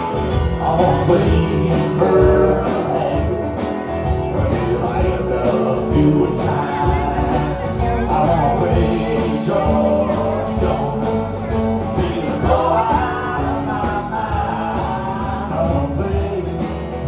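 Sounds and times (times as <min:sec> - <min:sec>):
guitar: 0:00.0 - 0:17.0
live country band playing: 0:00.0 - 0:17.0.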